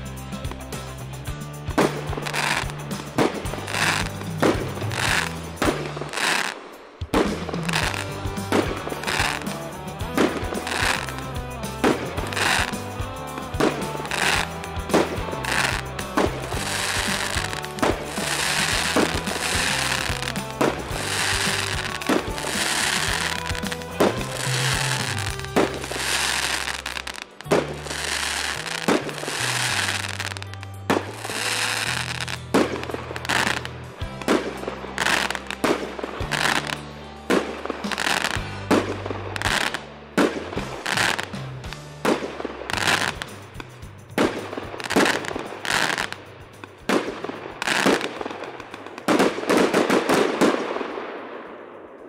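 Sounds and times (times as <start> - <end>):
crackling firework stars: 0.0 - 52.0
firework shots: 1.7 - 52.0.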